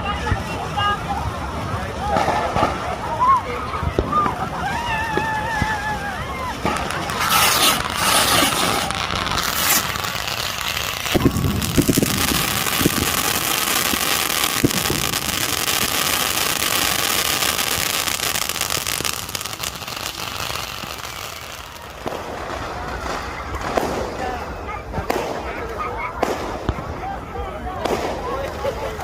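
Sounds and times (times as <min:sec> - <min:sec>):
fireworks crackling: 0:00.0 - 0:29.0
fireworks bangs: 0:02.0 - 0:29.0.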